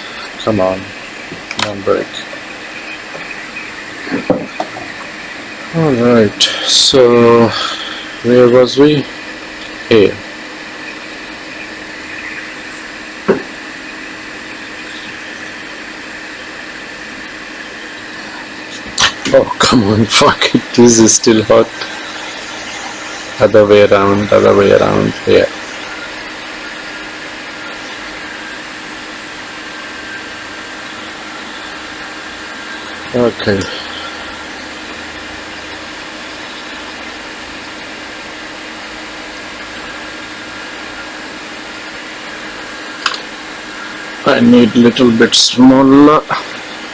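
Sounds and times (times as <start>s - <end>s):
faint hum: 0.0s - 46.9s
hot air blower hissing: 0.0s - 46.9s.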